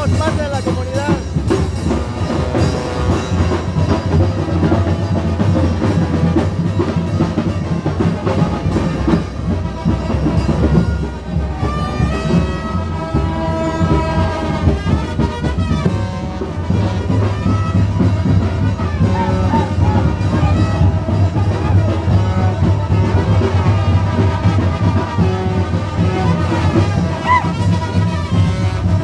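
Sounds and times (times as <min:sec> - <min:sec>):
brass and drum street band: 0:00.0 - 0:29.0.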